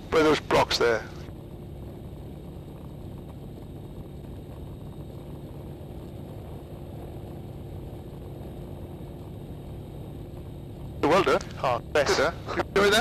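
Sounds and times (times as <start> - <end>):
light aircraft engine humming: 0.0 - 13.0.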